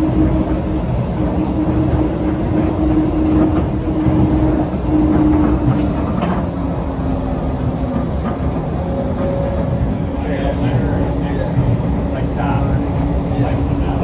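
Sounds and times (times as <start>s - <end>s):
train hum: 0.0s - 14.0s
train low rumble: 0.0s - 14.0s.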